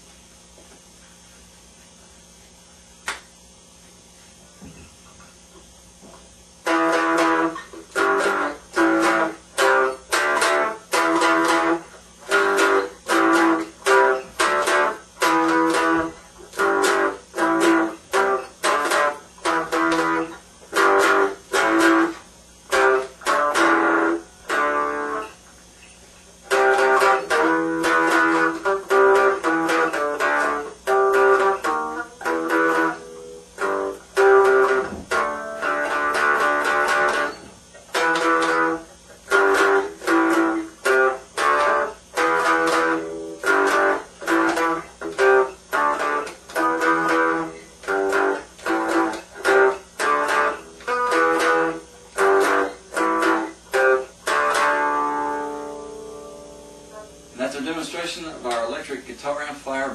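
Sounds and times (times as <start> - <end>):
electric guitar strummed chords: 6.6 - 25.4, 26.4 - 58.7.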